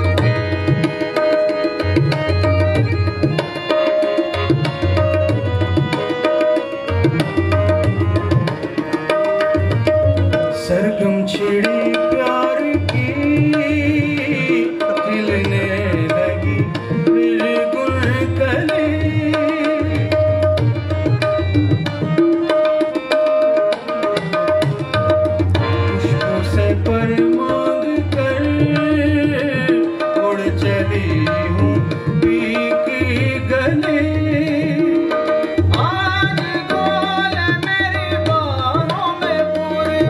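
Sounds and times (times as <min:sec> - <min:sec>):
harmonium sustained notes: 0:00.0 - 0:40.0.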